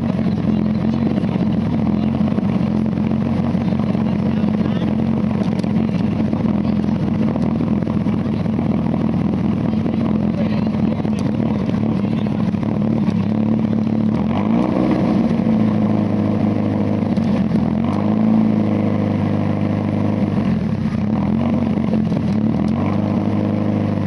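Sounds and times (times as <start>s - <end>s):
car engine revving at idle: 0.0s - 24.0s.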